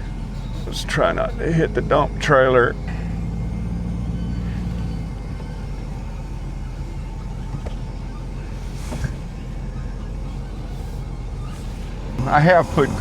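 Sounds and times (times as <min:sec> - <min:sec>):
vehicle engine low hum: 0:00.0 - 0:13.0.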